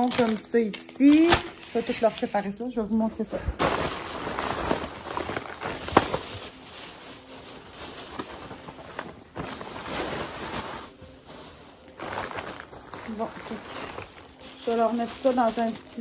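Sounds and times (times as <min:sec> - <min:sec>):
plastic bag rustling and crinkling: 0:00.0 - 0:16.0.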